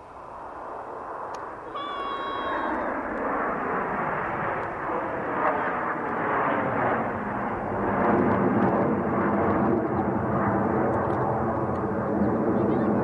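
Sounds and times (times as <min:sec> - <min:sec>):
jet engines flying overhead: 0:00.0 - 0:13.0.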